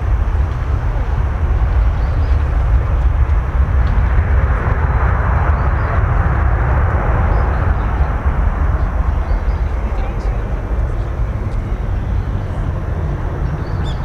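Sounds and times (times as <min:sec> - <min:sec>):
jet engines rumbling at takeoff: 0:00.0 - 0:14.0.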